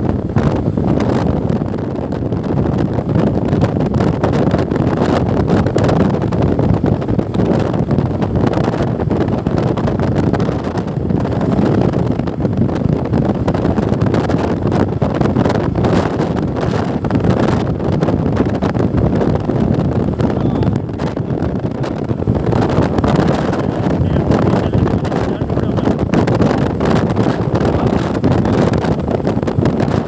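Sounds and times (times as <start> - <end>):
wind across microphone: 0.0 - 30.0.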